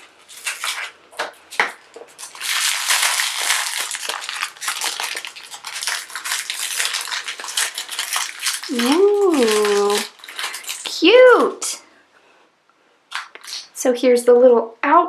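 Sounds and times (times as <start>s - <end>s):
plastic packaging crinkling: 0.0s - 11.7s, 13.1s - 13.7s.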